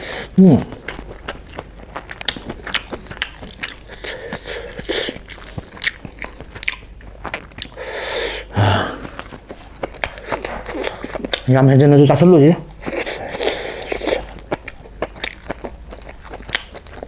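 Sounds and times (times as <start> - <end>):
wet chewing mouth clicks: 0.6 - 7.8, 9.0 - 11.5, 12.7 - 17.0.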